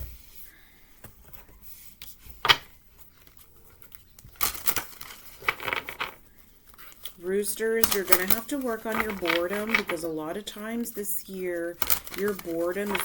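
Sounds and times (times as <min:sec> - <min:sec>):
cards rustling and clicking: 0:01.0 - 0:10.2, 0:11.3 - 0:13.0.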